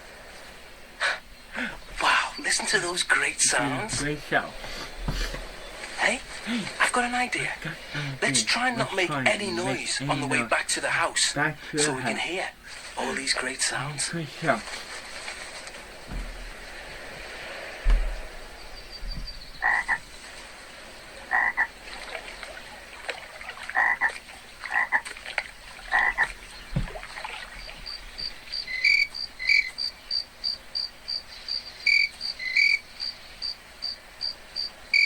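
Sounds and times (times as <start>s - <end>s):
frogs croaking: 0.0s - 35.0s.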